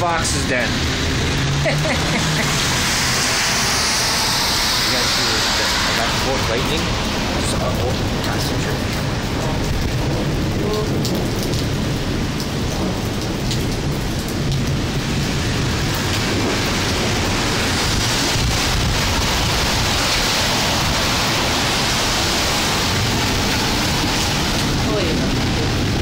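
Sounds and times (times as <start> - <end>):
heavy rain pouring: 0.0 - 26.0
low thunder rumble: 0.0 - 26.0.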